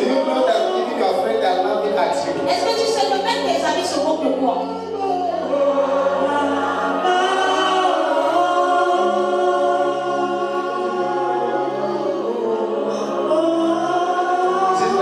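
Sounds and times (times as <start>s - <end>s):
choir singing long notes: 0.0s - 15.0s.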